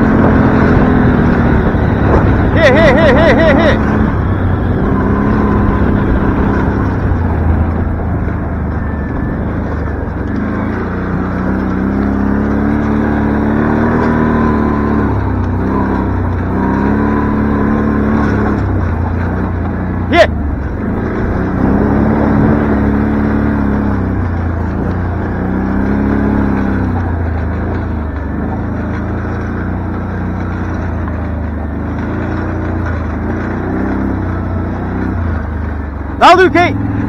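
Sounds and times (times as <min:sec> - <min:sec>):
motorbike engine revving: 0:00.0 - 0:37.0.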